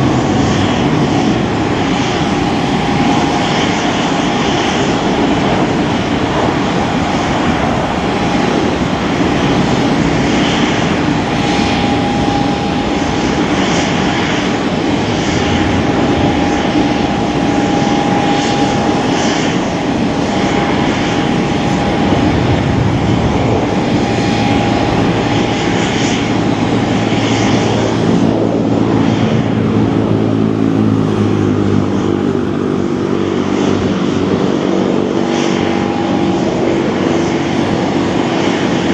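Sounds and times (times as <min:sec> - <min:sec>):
low multi-pitched hum: 0:00.0 - 0:38.5
turboshaft engines rumbling and whining: 0:00.0 - 0:38.9.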